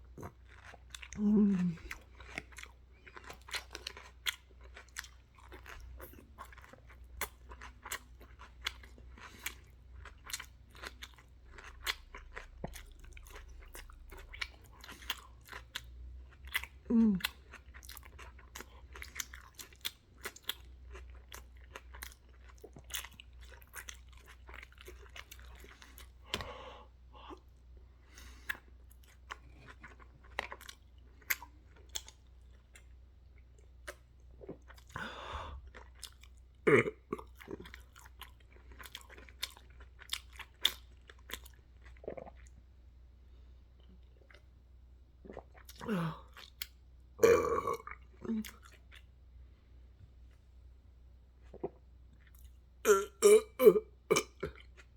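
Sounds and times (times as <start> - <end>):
person chewing loudly: 0.0 - 26.5, 28.2 - 32.9, 33.8 - 42.6, 45.2 - 49.1, 51.4 - 54.9.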